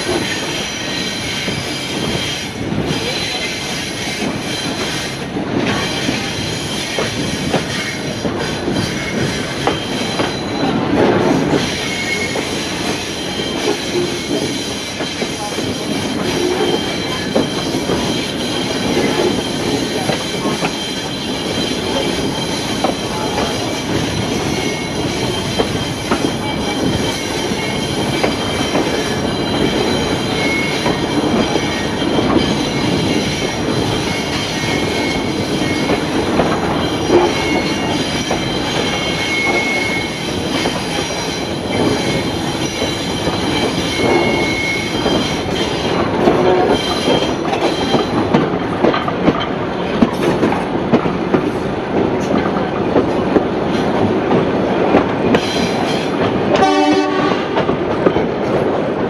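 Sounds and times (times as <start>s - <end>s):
train wheels on rails: 0.0s - 59.0s.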